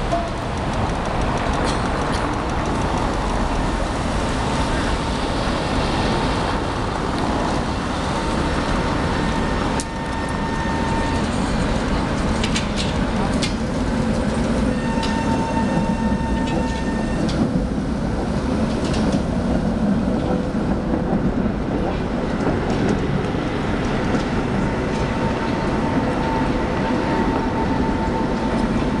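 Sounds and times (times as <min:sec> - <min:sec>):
city street noise: 0:00.0 - 0:29.0
tram whine: 0:00.0 - 0:29.0.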